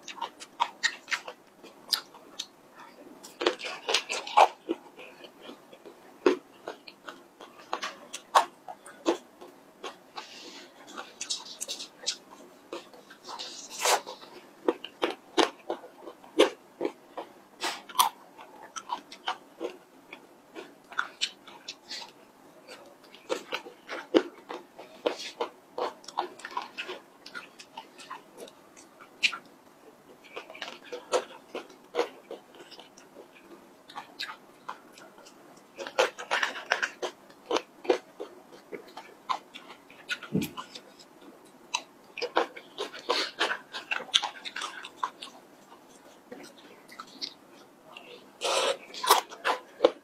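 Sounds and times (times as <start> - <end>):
mouth chewing ice cream: 0.0 - 50.0.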